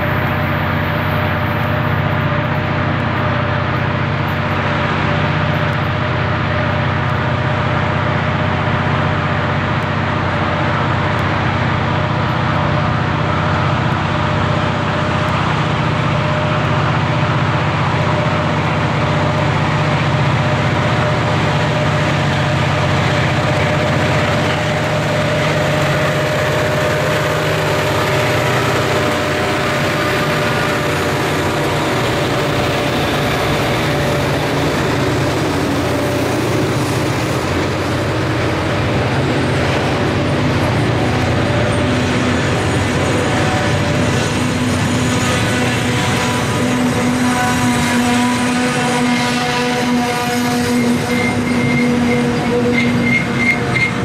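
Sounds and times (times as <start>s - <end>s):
diesel locomotive engines droning: 0.0s - 54.0s
freight train rolling past: 0.0s - 54.0s.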